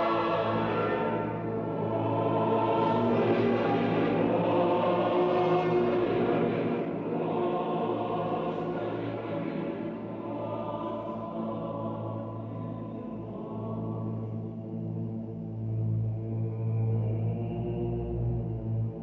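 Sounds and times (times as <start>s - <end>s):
choir holding sustained chords: 0.0s - 19.0s.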